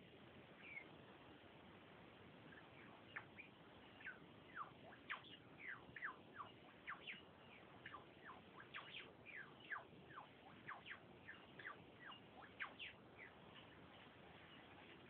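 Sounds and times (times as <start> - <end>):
steady hiss: 0.0 - 15.0
faint thin bird calls: 0.6 - 1.0, 2.4 - 15.0.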